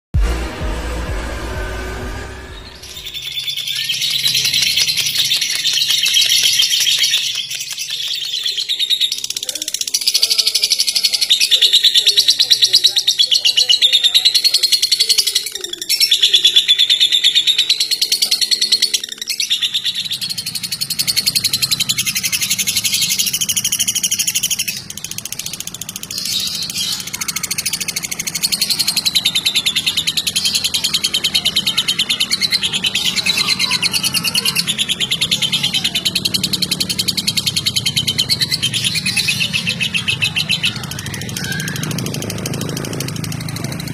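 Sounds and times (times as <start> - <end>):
lovebirds chattering trills: 2.8 - 43.9.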